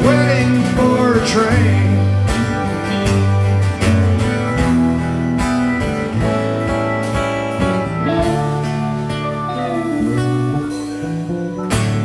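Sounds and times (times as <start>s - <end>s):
drum kit beat: 0.0s - 12.0s
electric bass: 0.0s - 12.0s
keyboard: 0.0s - 12.0s
strummed acoustic guitar: 0.0s - 12.0s.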